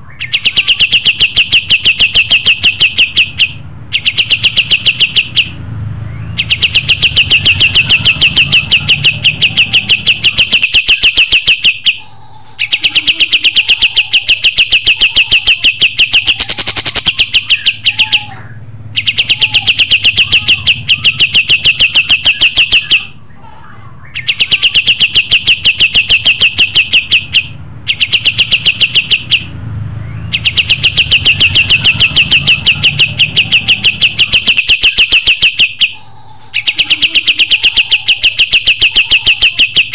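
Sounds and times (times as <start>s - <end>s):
bulbul singing chattering song: 0.0s - 39.9s.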